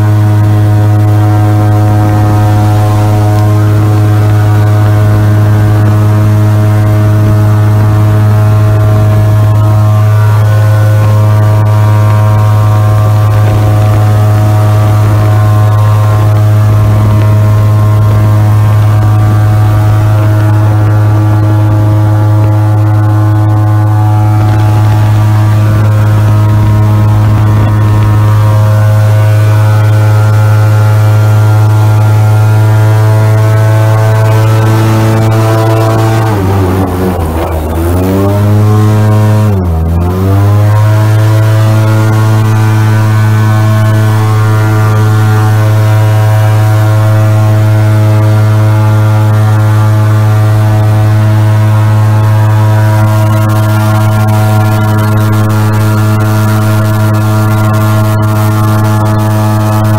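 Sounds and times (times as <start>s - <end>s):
airboat engine and propeller drone: 0.0s - 59.9s.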